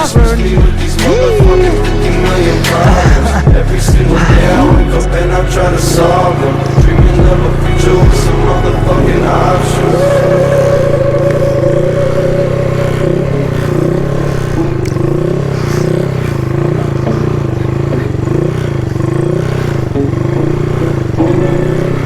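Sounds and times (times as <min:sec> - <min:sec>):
small engine revving: 0:00.0 - 0:22.0.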